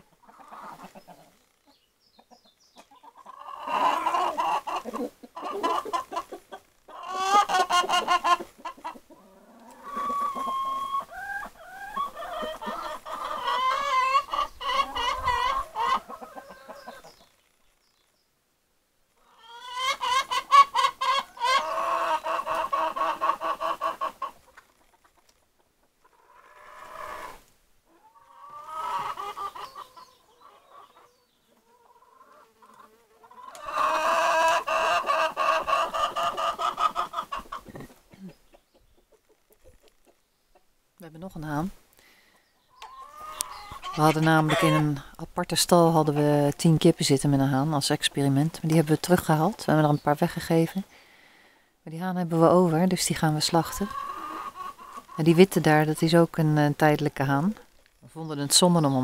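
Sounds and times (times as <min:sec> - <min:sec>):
chickens clucking and calling: 0:00.0 - 0:17.6, 0:19.1 - 0:59.0.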